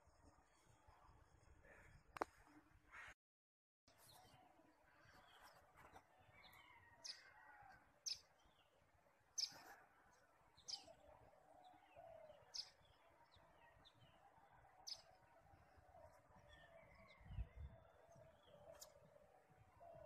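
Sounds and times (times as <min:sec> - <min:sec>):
soft bird chirping: 0:03.9 - 0:20.0.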